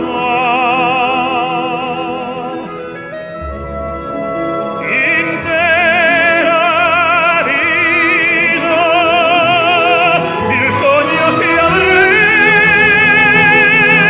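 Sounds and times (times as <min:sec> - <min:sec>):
operatic voice singing: 0:00.0 - 0:03.0, 0:04.8 - 0:14.0
instrumental accompaniment: 0:00.0 - 0:14.0.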